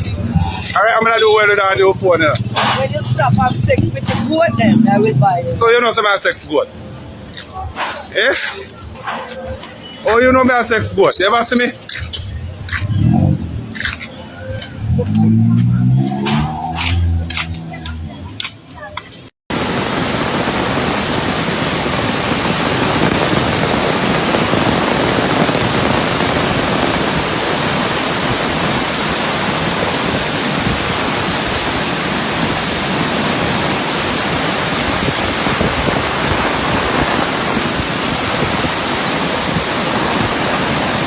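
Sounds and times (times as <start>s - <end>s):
loud steady rushing noise: 0.0s - 41.0s.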